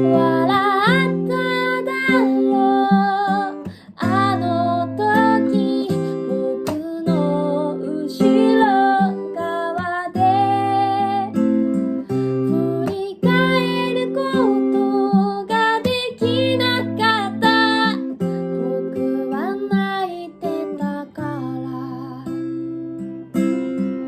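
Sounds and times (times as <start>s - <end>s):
woman singing: 0.0s - 22.8s
acoustic guitar strumming: 0.0s - 24.0s.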